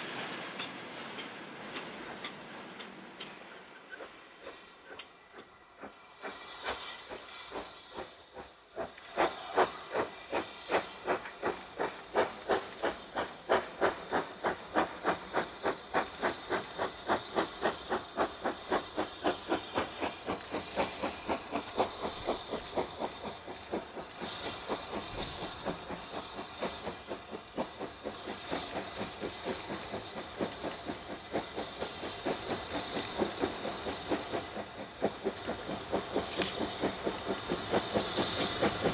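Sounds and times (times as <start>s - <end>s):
steam hissing: 0.0s - 38.9s
steam locomotive chuffing: 0.0s - 38.9s.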